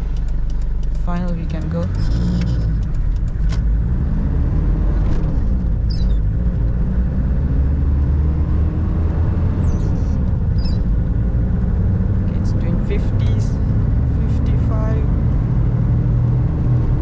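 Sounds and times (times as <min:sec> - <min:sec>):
diesel engine accelerating: 0:00.0 - 0:17.0.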